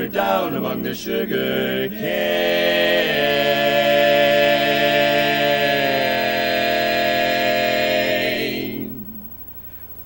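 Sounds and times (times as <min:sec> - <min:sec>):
male voices singing in harmony: 0:00.0 - 0:09.1.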